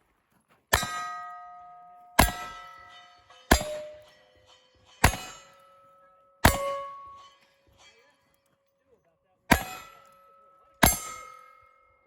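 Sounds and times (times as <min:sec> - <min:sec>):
steel target ringing: 0:00.7 - 0:08.4, 0:09.5 - 0:12.0.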